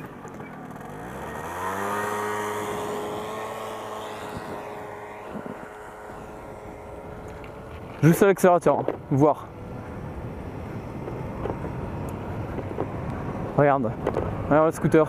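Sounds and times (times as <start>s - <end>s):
moped engine accelerating: 0.0s - 15.0s
wind noise: 2.4s - 15.0s.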